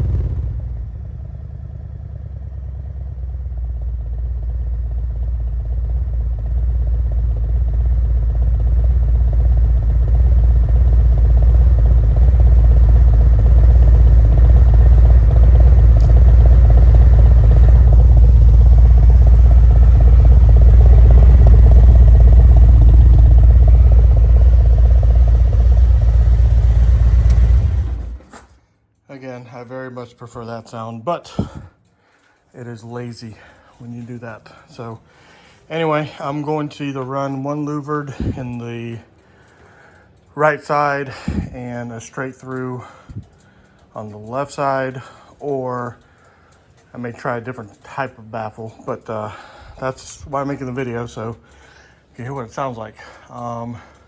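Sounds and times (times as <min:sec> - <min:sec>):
motorcycle exhaust pulse: 0:00.0 - 0:28.5, 0:31.3 - 0:32.4, 0:38.0 - 0:40.3, 0:41.0 - 0:54.0.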